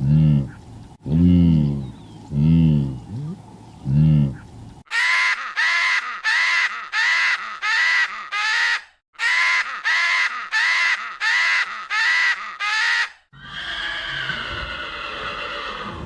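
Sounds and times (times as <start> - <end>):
longer animal sound: 0.0 - 16.0.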